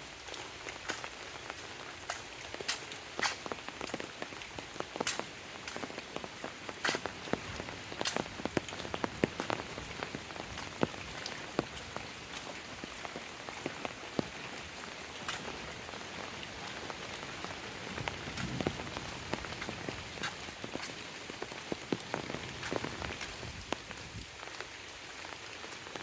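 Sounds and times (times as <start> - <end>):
rain hiss: 0.0 - 26.0
close drips and drop impacts: 0.2 - 24.7.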